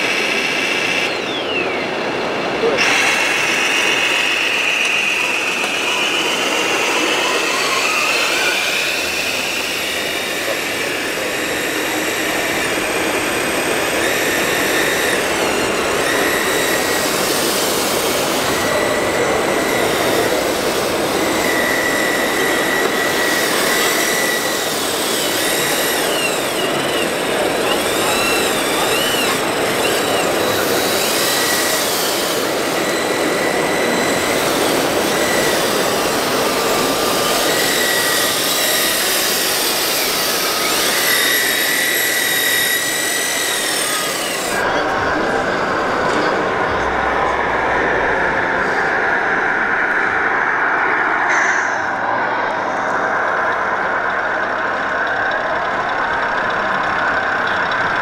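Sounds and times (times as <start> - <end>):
electric motors and hydraulic whine: 0.0 - 58.0
steady mechanical din: 0.0 - 58.0.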